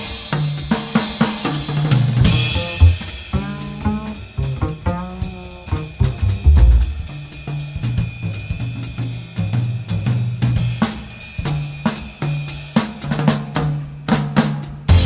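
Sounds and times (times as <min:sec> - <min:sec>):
drum beat with bass line: 0:00.0 - 0:15.0.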